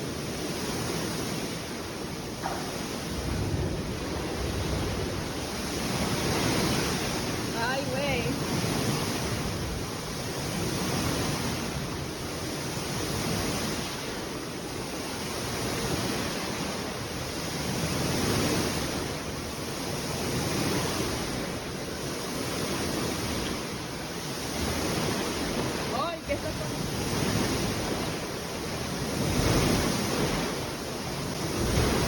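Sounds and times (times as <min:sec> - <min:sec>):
pool water sloshing and rushing: 0:00.0 - 0:32.0.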